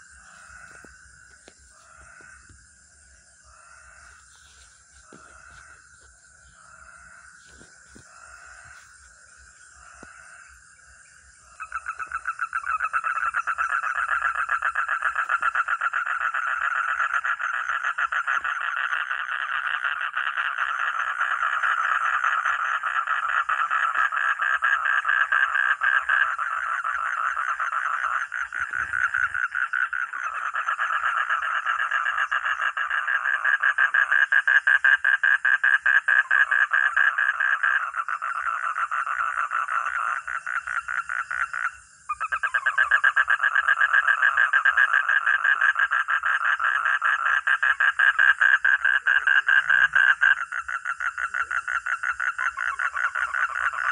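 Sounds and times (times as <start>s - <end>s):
chorus of frogs calling: 0.0s - 53.9s.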